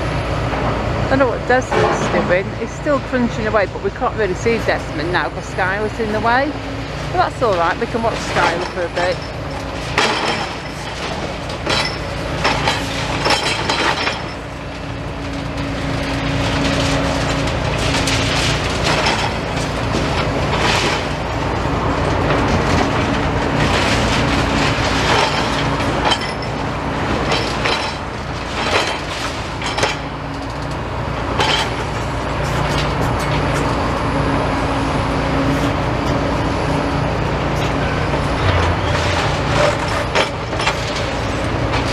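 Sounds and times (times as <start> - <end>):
diesel engines droning: 0.0 - 41.9
rubble crunching and clattering: 4.4 - 34.6, 35.3 - 41.9.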